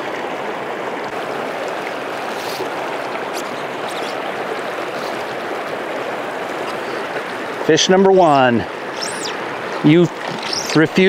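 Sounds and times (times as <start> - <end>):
small stream rushing: 0.0 - 11.0.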